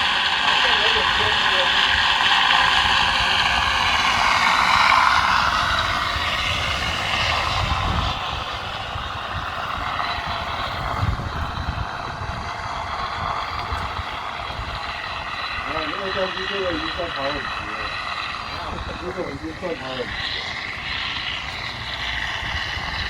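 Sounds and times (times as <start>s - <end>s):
simulated warplane engine through speaker: 0.0s - 23.0s.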